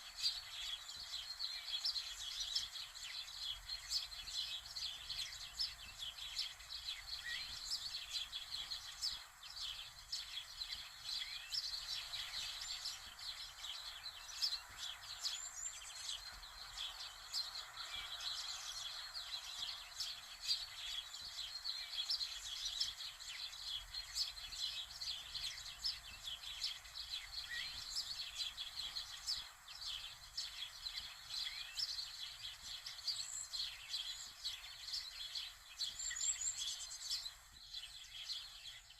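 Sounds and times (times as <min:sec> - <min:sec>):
faint outdoor hiss: 0:00.0 - 0:38.9
small birds chirping: 0:00.0 - 0:38.9.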